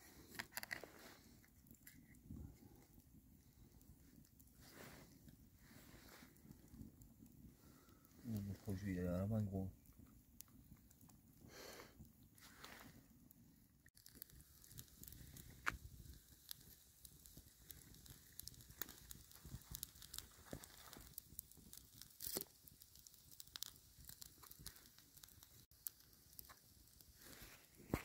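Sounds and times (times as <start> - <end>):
campfire crackling: 0.0 - 28.0
burning logs snapping and popping: 0.1 - 5.5, 6.1 - 13.0, 13.9 - 28.0.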